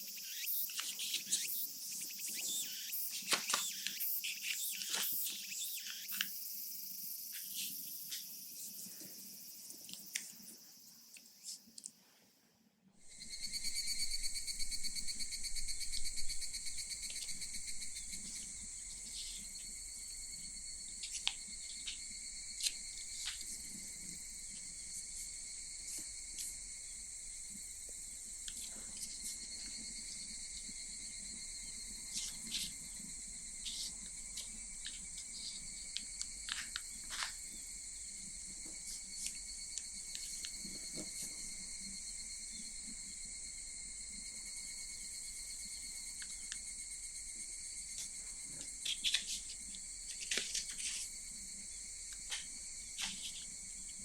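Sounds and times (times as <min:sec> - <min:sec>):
cicadas singing: 0:00.0 - 0:11.7, 0:13.0 - 0:54.0.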